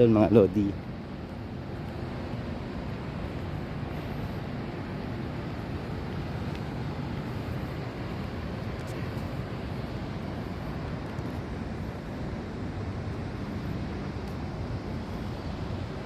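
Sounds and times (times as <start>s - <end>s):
low rumbling outdoor background noise: 0.0s - 16.0s.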